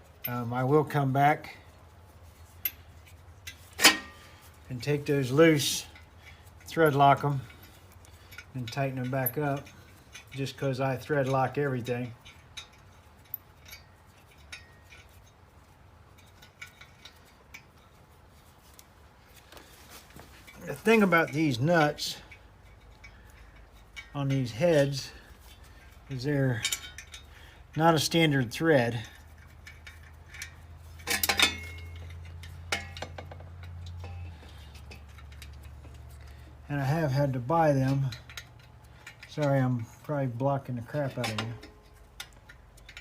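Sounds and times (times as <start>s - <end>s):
metal parts clinking: 1.6s - 18.0s, 19.4s - 43.0s.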